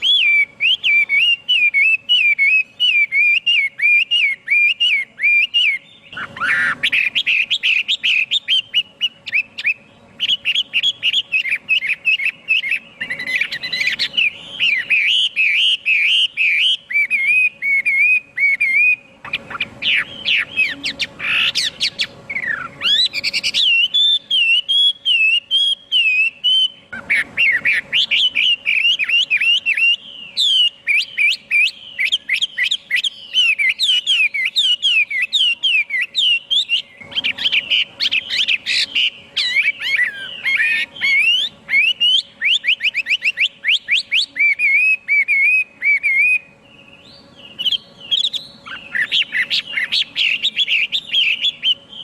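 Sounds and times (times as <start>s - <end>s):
bird singing whistled phrases: 0.0s - 52.0s.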